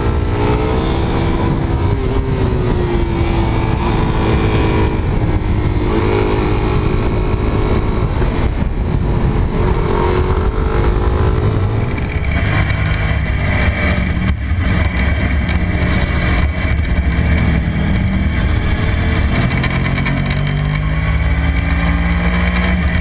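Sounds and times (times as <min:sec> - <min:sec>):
motorcycle engine revving: 0:00.0 - 0:23.0
wind noise: 0:00.0 - 0:23.0.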